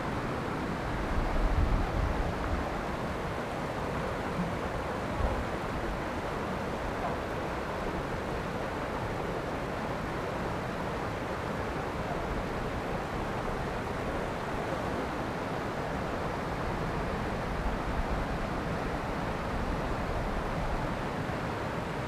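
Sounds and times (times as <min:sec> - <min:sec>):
river rushing over stones: 0:00.0 - 0:22.0.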